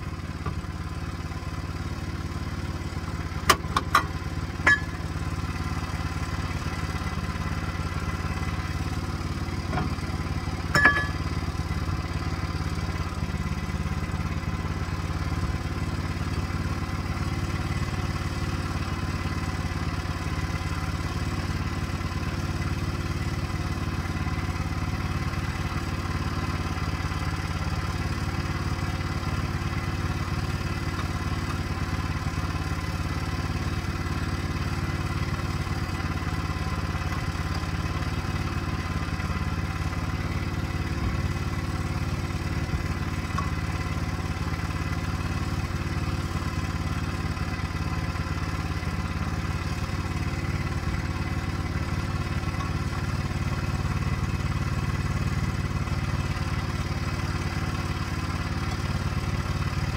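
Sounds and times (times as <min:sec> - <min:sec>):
sawmill engine running steadily: 0:00.0 - 0:59.9.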